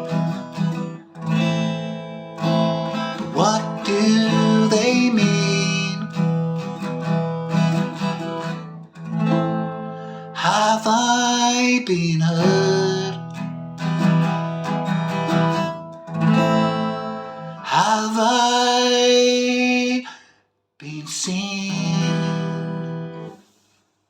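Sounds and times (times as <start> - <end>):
strummed acoustic guitar chords: 0.0 - 23.8.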